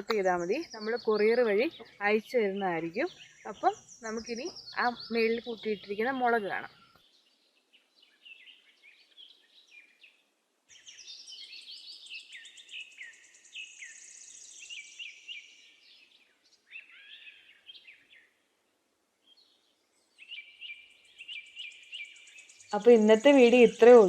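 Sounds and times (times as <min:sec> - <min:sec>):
birds chirping: 0:00.0 - 0:18.4, 0:19.3 - 0:24.0.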